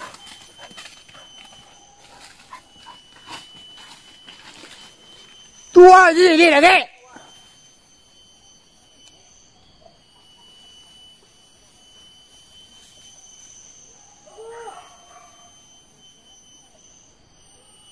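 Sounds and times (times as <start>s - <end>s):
high-pitched insect drone: 0.0s - 17.9s.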